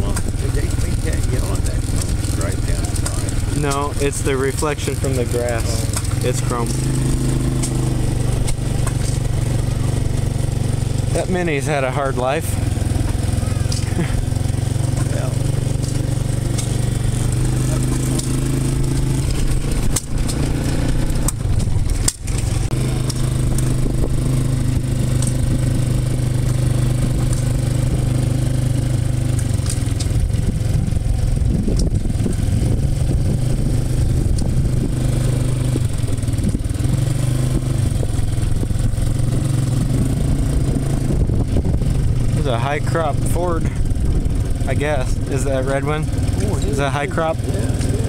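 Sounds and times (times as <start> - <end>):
engine running steadily: 0.0 - 48.0.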